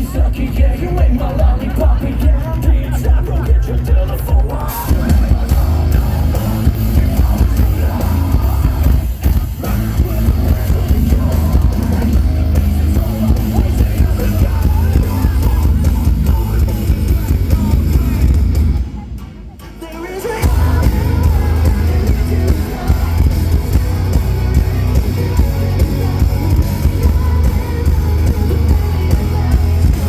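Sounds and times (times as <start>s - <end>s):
live metal band playing: 0.0s - 30.0s.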